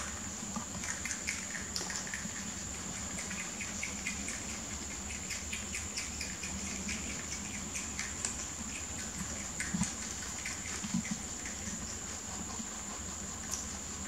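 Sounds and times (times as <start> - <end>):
rabbits chewing greens: 0.0 - 14.0
steady high-pitched whine: 0.0 - 14.0.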